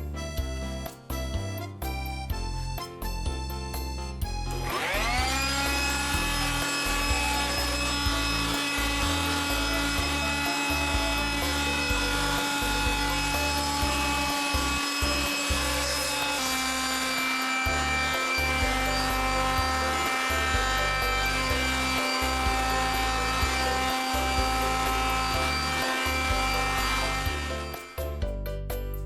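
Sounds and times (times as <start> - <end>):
blade cutting wood: 2.2 - 28.2
electric power tool running: 4.3 - 28.2.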